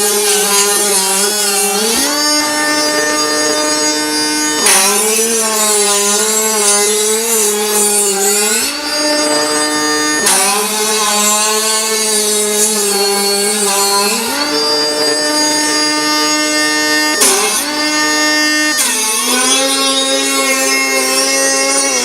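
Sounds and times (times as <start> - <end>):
pneumatic grinder whining: 0.0 - 22.0.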